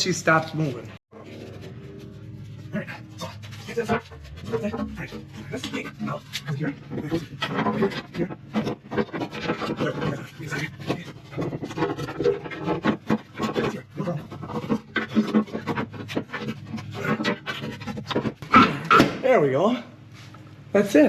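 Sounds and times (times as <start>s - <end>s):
steady low hum: 0.8s - 21.0s
clicking and scraping on metal: 1.2s - 18.6s.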